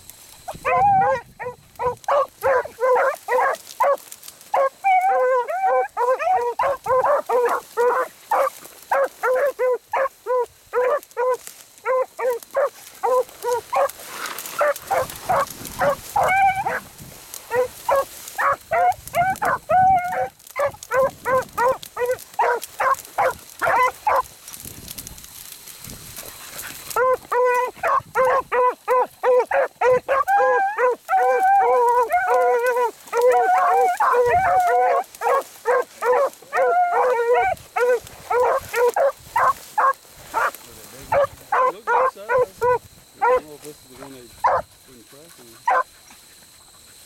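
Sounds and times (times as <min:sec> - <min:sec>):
dogs baying: 0:00.4 - 0:24.3, 0:26.3 - 0:47.0.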